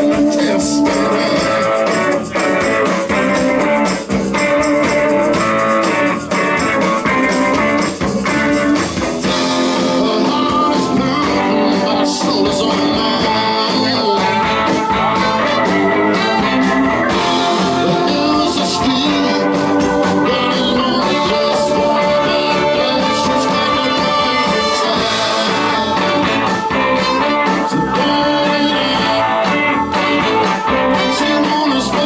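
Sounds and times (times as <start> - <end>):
blues-rock band playing live: 0.0 - 32.0
electric guitar: 0.0 - 32.0.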